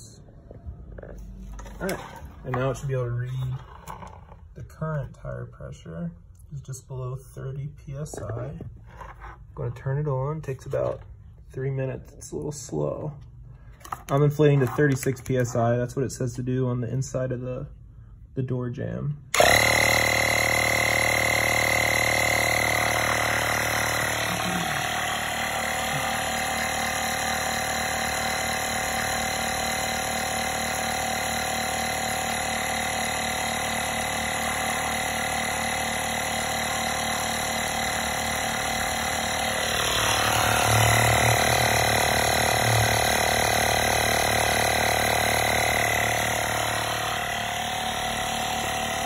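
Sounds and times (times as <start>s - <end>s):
air compressor running: 0.0s - 5.4s, 7.4s - 16.3s, 19.3s - 49.0s.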